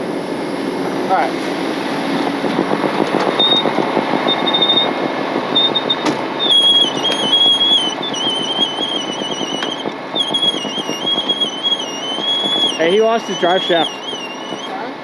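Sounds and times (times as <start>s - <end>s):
heavy truck engine and hydraulics: 0.0s - 15.0s
high whine: 0.0s - 15.0s.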